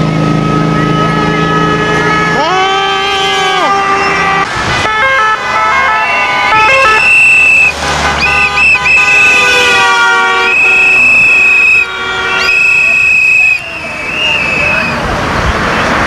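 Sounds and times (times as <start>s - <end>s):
vehicle horns blasting: 0.3s - 15.0s.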